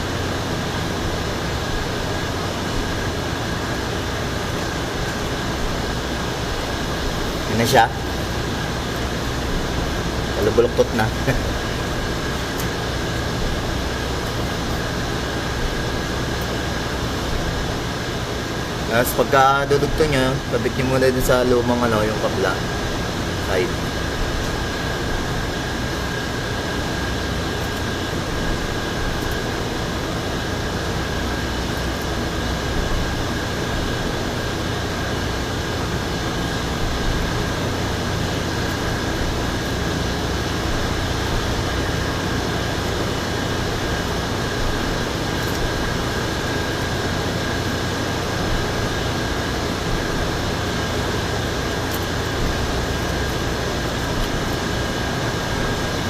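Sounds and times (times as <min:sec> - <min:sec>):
machine hum and hiss: 0:00.0 - 0:56.0
thin high whine: 0:00.0 - 0:56.0.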